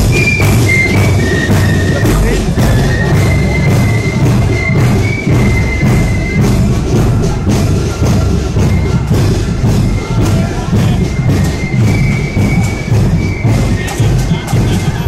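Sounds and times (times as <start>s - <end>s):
high flute melody: 0.0s - 15.0s
marching drums: 0.0s - 15.0s.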